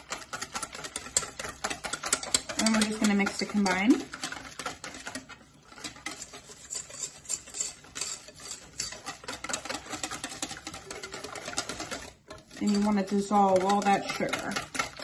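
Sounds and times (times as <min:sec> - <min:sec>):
whisk beating in metal bowl: 0:00.0 - 0:15.0.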